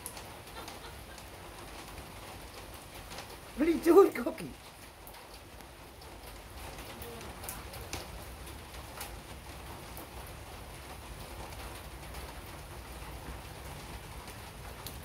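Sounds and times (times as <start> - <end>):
rain on wet paving: 0.0 - 15.0.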